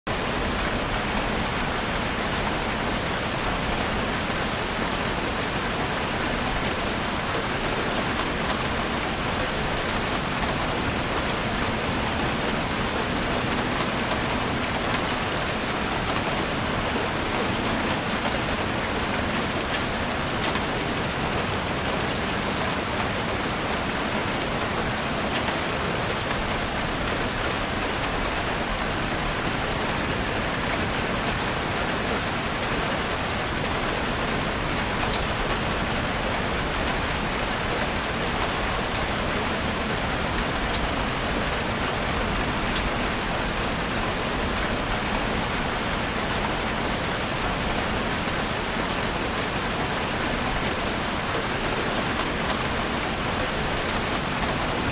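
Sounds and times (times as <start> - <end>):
heavy rain on a roof: 0.0 - 54.9.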